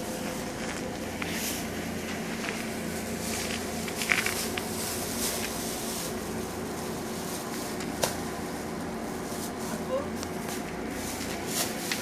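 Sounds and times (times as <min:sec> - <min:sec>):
low machine hum: 0:00.0 - 0:12.0
rustling: 0:00.1 - 0:12.0.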